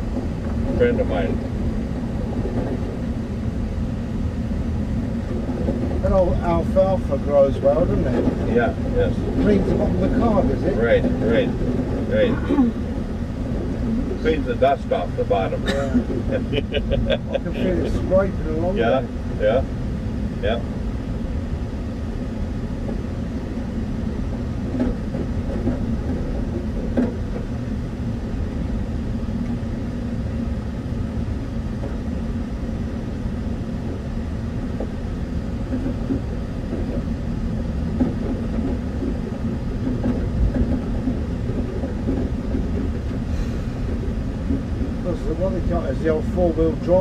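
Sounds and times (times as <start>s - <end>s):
car rumbling on rough track: 0.0s - 47.0s.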